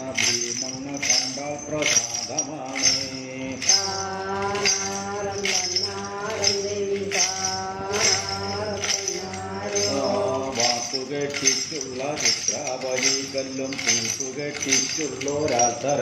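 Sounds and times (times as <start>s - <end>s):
metallic jingle of bells: 0.0s - 16.0s
person singing long notes: 0.0s - 16.0s.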